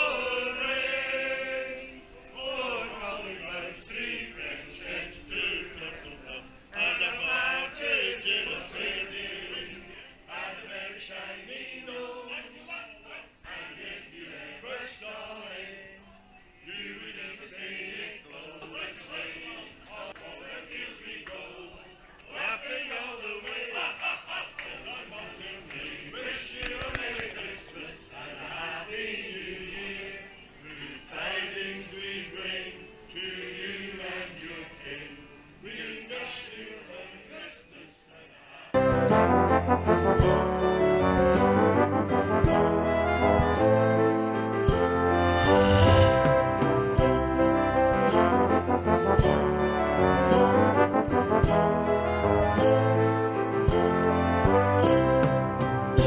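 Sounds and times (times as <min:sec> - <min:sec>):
men singing a carol: 0:00.0 - 0:16.0, 0:16.6 - 0:53.7.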